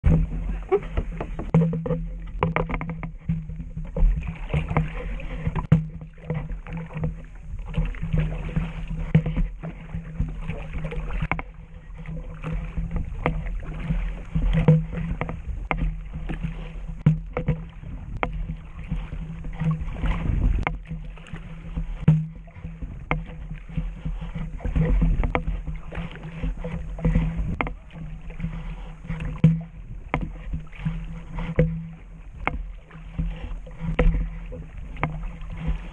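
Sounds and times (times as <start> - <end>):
knocks against kayak hull: 0.0 - 35.9
water sloshing and splashing: 0.0 - 35.9.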